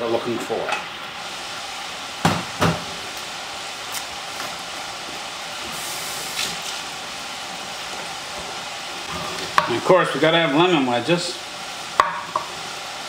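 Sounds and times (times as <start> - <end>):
fries sizzling in hot oil: 0.0 - 13.0.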